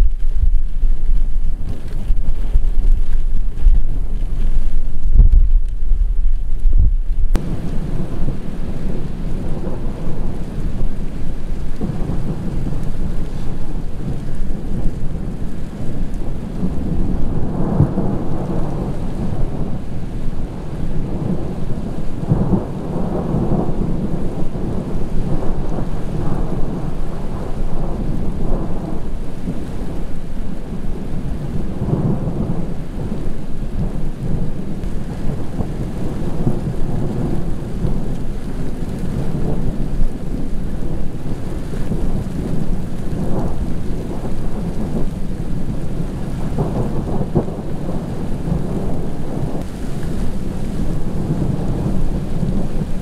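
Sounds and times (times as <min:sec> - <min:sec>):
rolling thunder: 0:00.0 - 0:53.0.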